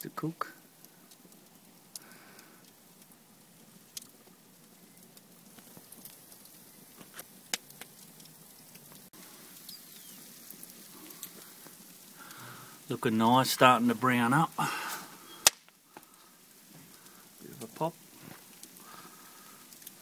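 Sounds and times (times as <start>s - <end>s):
fire hissing: 0.0s - 20.0s
fire pops and clicks: 0.0s - 20.0s.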